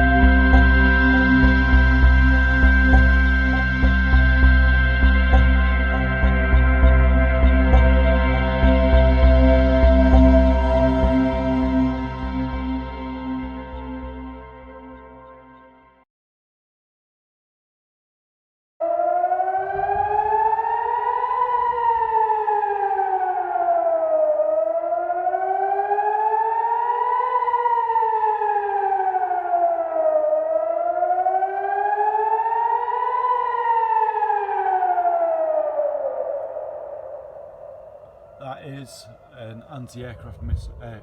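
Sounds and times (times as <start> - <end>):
air-raid siren wailing: 0.0 - 16.0, 18.8 - 41.0.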